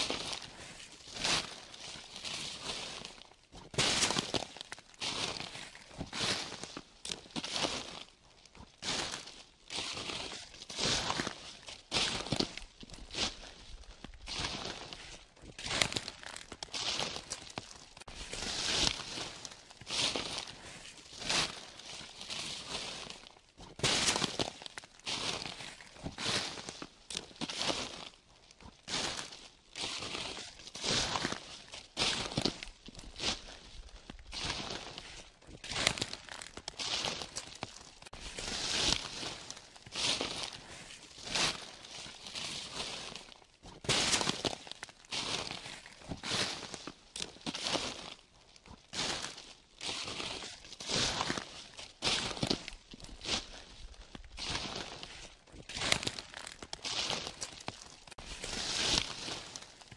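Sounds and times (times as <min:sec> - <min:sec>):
footsteps crunching through dry leaves: 0:00.0 - 0:59.9.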